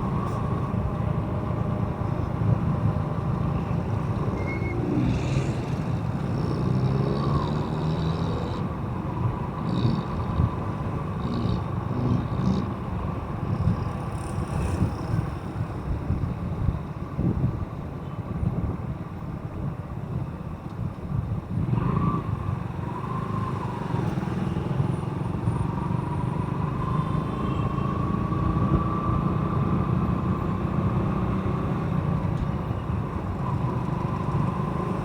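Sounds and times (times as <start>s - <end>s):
passing traffic: 0.0s - 35.0s
road and wind noise: 0.0s - 35.0s.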